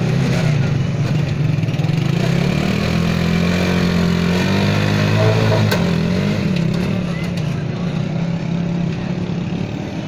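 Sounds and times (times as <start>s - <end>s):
motorcycle engine under load: 0.0s - 10.0s.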